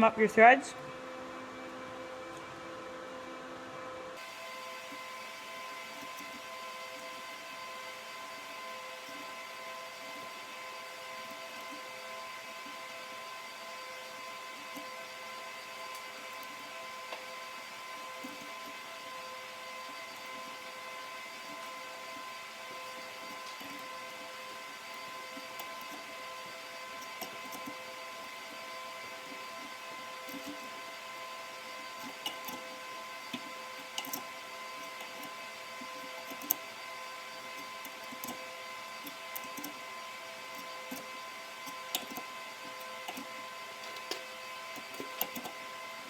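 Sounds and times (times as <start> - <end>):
machine-like hum: 0.0 - 46.0.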